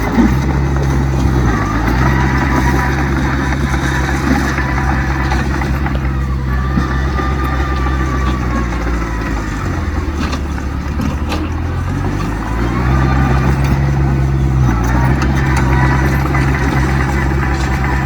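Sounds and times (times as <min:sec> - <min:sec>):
heavy diesel engine drone: 0:00.0 - 0:18.0.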